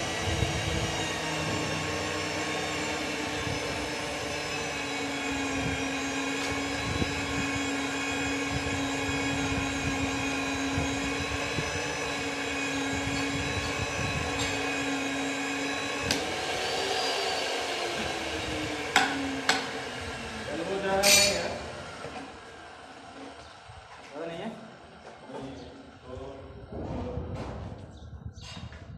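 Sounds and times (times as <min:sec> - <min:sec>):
pipe threading machine motor hum: 0:00.0 - 0:23.6.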